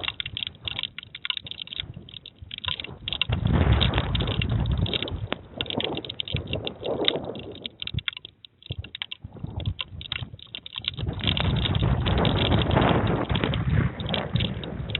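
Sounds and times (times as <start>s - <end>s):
raindrops clicking on camera housing: 0.0s - 14.9s
wind gusts: 0.0s - 14.9s.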